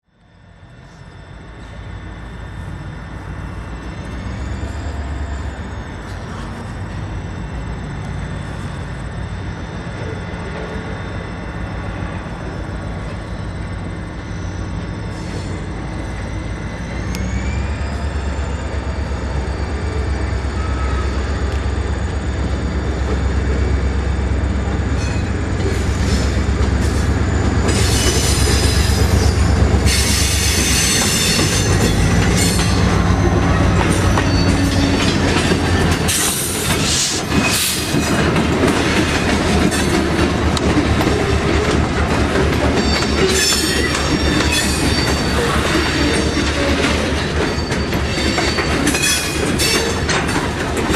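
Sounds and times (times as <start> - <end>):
diesel locomotive engine rumble: 0.0 - 50.9.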